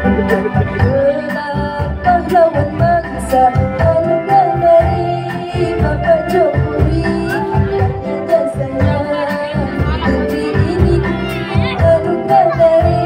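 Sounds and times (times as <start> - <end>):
instrumental backing with beat: 0.0 - 13.0
woman singing into microphone: 0.0 - 13.0.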